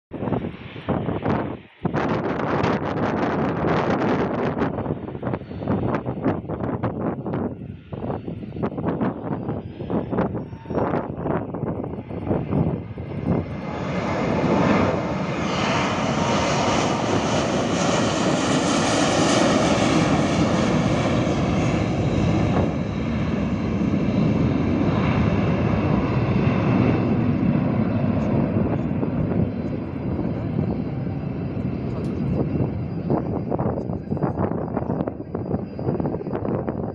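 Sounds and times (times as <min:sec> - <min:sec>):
jet engines at takeoff thrust: 0:00.1 - 0:36.9.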